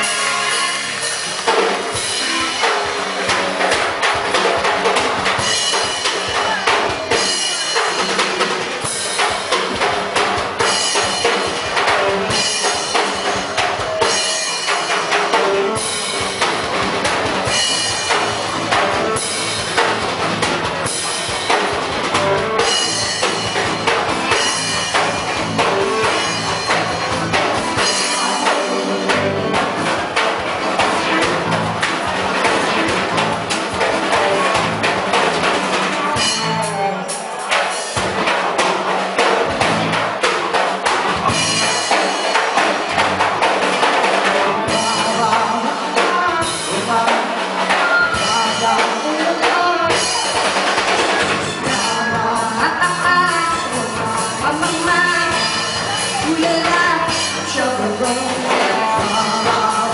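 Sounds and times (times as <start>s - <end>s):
drum kit: 0.0s - 59.9s
live rock band playing: 0.0s - 59.9s.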